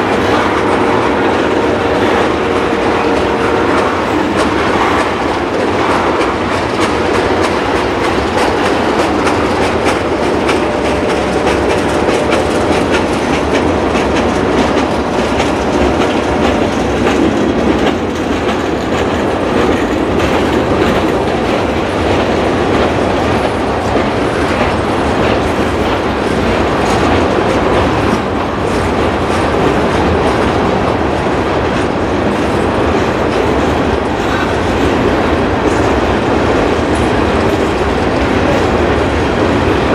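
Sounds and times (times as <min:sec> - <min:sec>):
freight train wheels rumbling: 0:00.0 - 0:39.9
rapid clicking of wheels on rails: 0:00.0 - 0:39.9.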